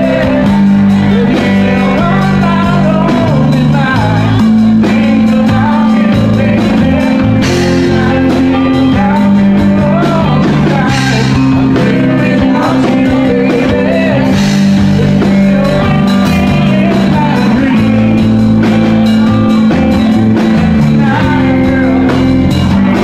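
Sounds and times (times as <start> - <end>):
guitar and bass: 0.0 - 23.0
person singing: 0.0 - 23.0
steady drum beat: 0.0 - 23.0.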